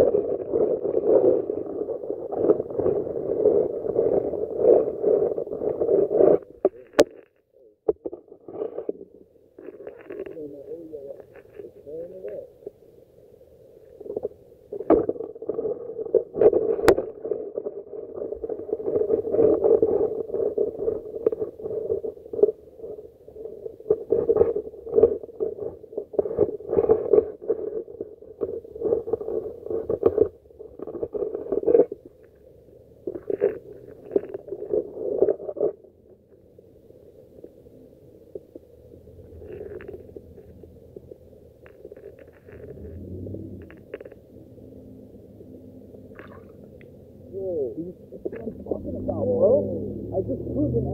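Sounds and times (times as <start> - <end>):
underwater rumbling and surging: 0.0 - 50.9.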